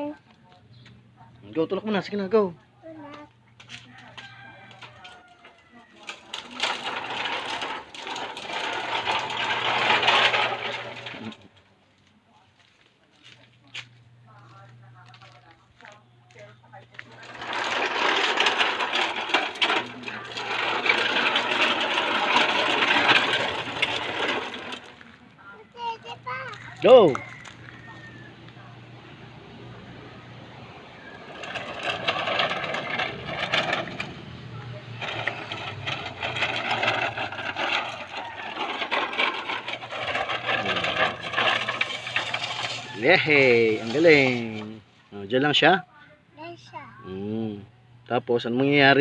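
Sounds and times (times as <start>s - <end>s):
toy truck rolling and rattling: 1.6s - 44.9s.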